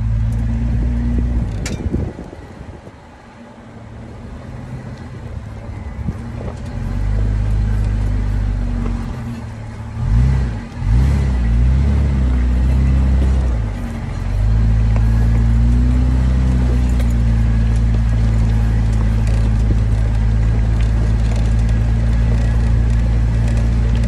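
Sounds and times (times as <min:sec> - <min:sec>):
truck engine under load: 0:00.0 - 0:24.0.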